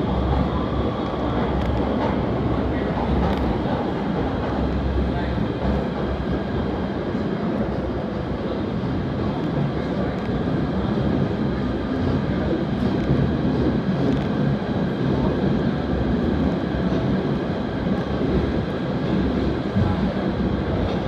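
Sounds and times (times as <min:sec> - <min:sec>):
train wheels on rail in tunnel: 0:00.0 - 0:21.0.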